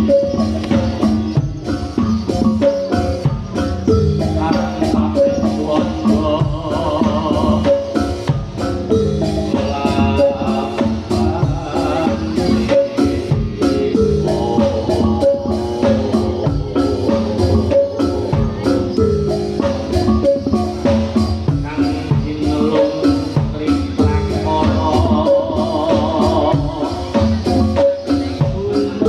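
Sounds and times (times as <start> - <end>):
drum strikes: 0.0 - 29.0
metal mallet percussion: 0.0 - 29.0.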